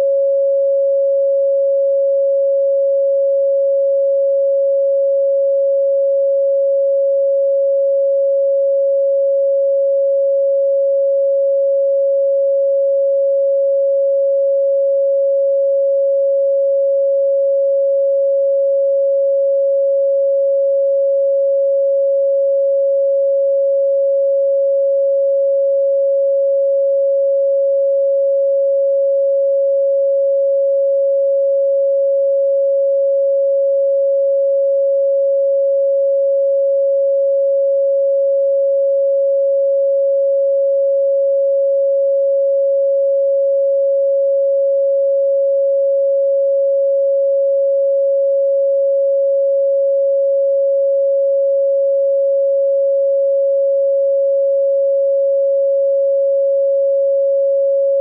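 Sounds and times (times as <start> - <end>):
electronic sine tone: 0.0 - 58.0.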